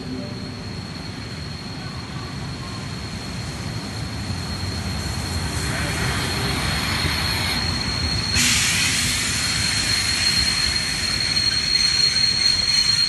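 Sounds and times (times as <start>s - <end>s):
locomotive high whine: 0.0s - 13.0s
hissing steam: 0.3s - 13.0s.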